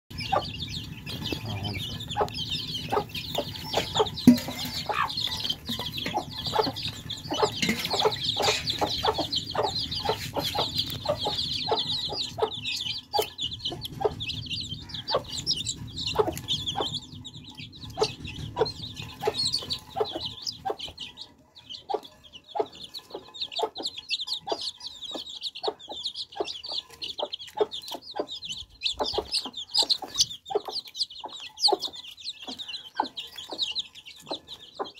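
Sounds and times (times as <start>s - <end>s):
baby chicks peeping: 0.1s - 34.9s.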